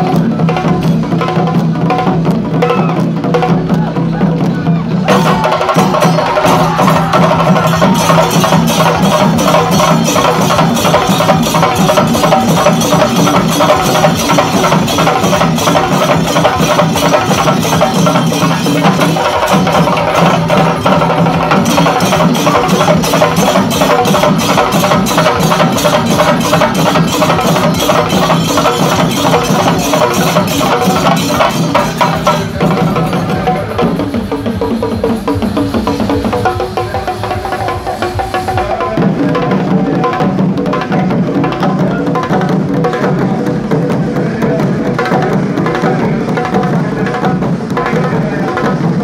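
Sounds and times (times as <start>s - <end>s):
drum ensemble played with sticks: 0.0s - 49.0s.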